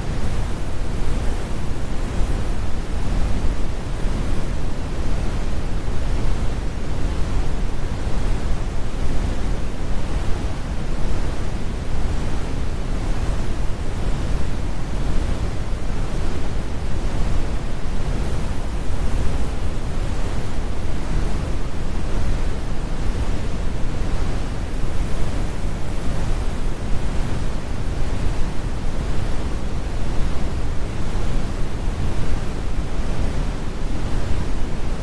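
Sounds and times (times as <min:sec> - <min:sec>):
brown noise rumbling hiss: 0:00.0 - 0:35.0.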